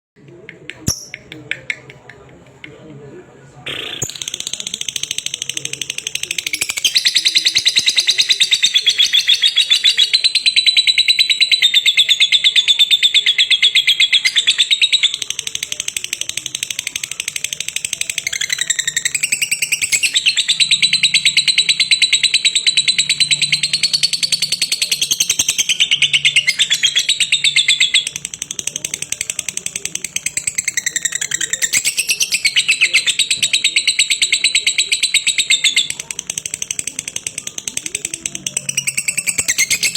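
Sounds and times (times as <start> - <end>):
lovebird chattering trill: 3.7 - 39.9.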